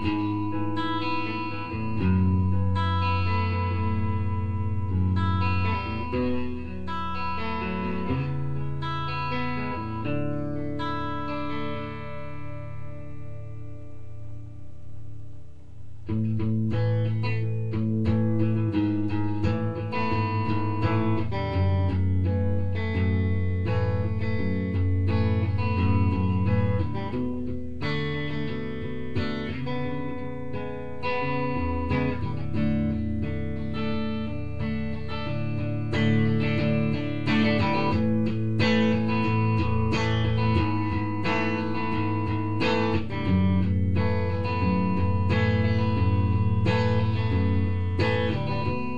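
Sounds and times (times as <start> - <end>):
guitar picked notes and chords: 0.0 - 48.9.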